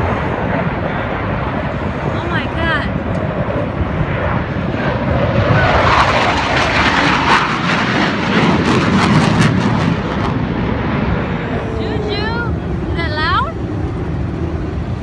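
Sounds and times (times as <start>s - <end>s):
airplane flying past: 0.0s - 15.0s.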